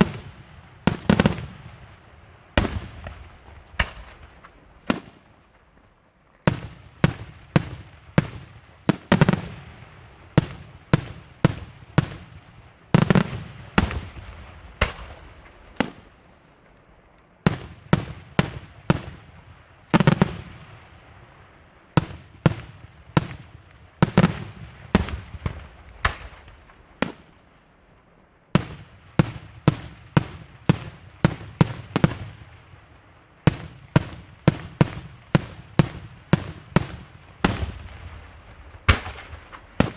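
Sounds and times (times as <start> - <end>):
fireworks bangs with echo: 0.0 - 39.9.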